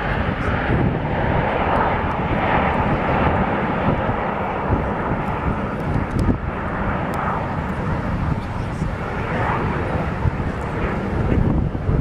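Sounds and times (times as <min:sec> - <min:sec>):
jets flying past: 0:00.0 - 0:12.0.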